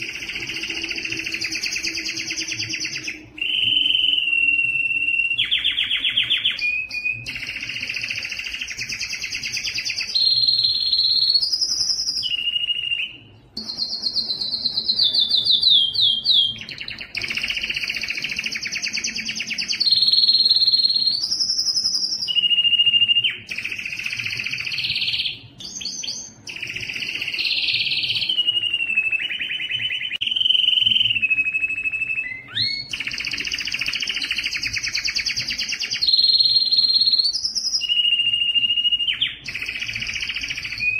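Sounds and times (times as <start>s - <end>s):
canary singing trilled phrases: 0.0s - 40.9s.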